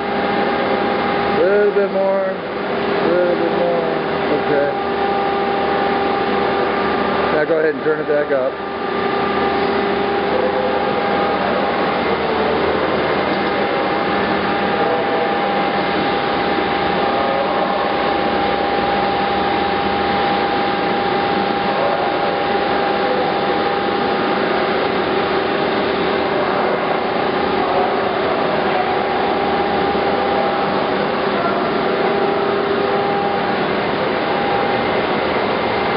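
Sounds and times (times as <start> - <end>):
grinder running with high whine: 0.0 - 35.9.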